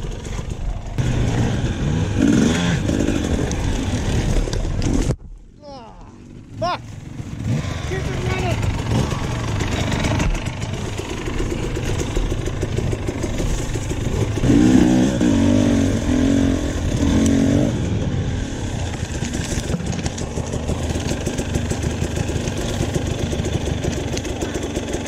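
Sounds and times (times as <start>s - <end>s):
dirt bike engine revving: 0.0s - 5.0s, 6.2s - 25.0s.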